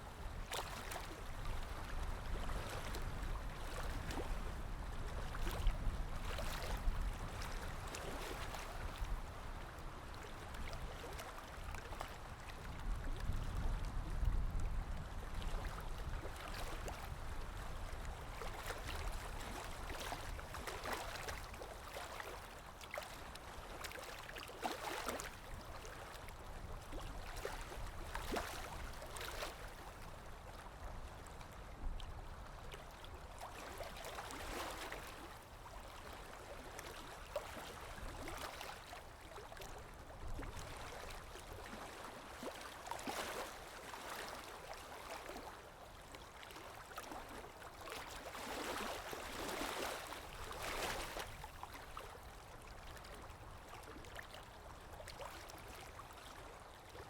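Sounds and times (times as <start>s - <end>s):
water lapping: 0.0s - 57.0s.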